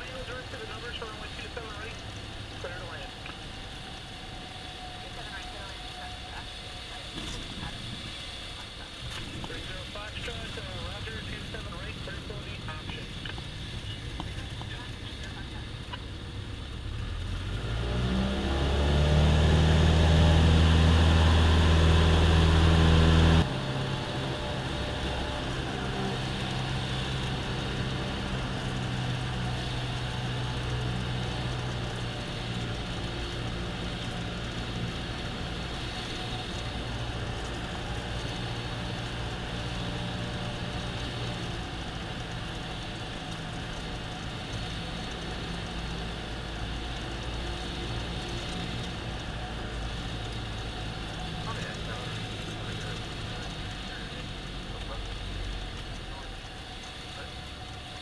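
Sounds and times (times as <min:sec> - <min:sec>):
airplane engine and propeller: 0:00.0 - 0:58.0.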